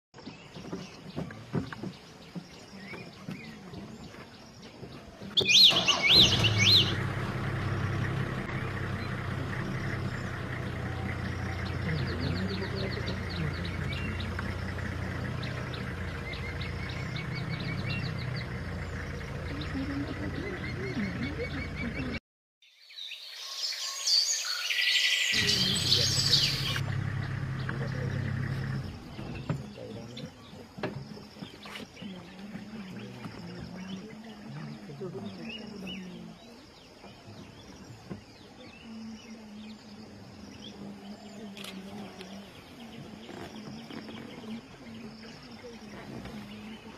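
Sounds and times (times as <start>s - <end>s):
birds chirping: 0.2s - 46.9s.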